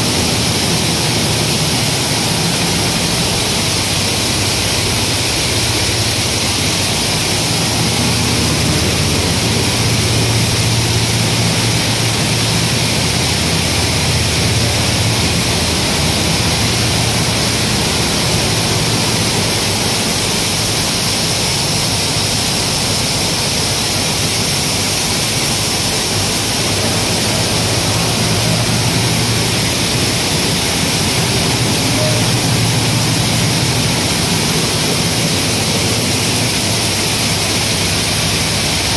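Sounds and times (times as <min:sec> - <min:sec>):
grain cleaning machinery humming: 0:00.0 - 0:38.9.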